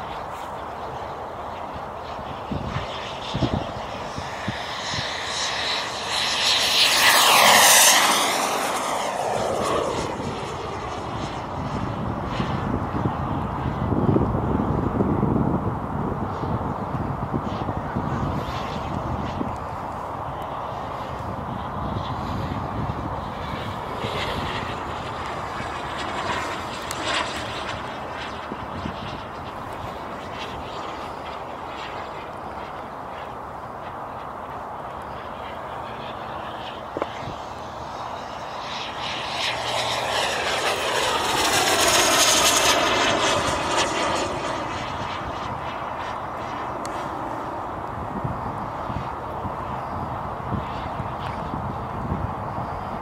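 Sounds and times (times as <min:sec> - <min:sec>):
model jet turbine whine: 0:00.0 - 0:53.0.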